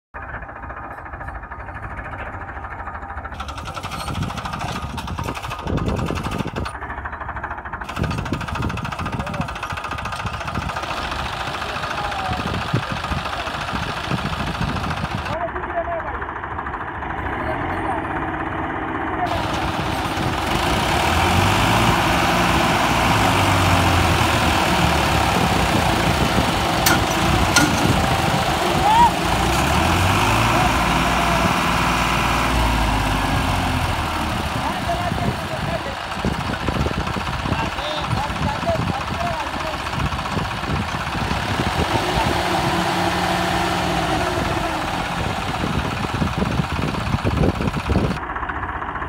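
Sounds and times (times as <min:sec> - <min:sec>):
diesel tractor engines idling: 0:00.2 - 0:49.0.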